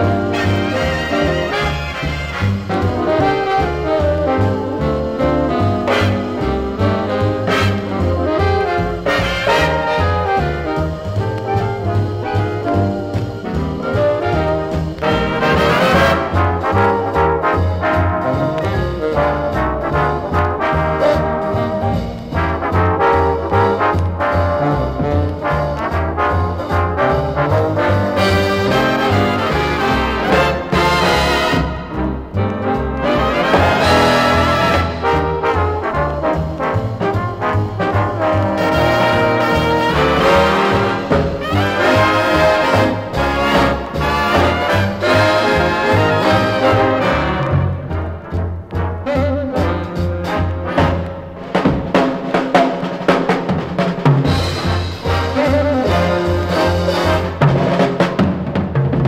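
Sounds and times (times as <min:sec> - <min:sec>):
steady bass line: 0:00.0 - 0:51.9
big band swing music: 0:00.0 - 0:59.0
trombones and trumpets: 0:00.0 - 0:59.0.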